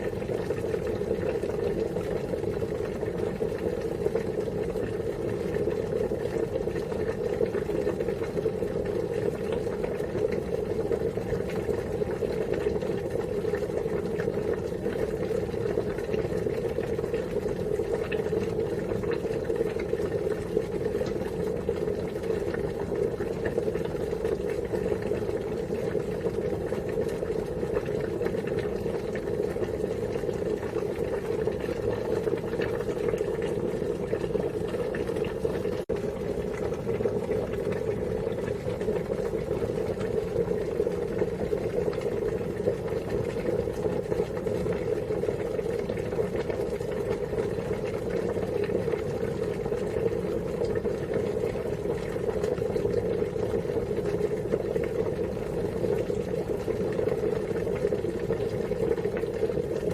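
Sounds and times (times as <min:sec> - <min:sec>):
water boiling: 0:00.0 - 0:59.9.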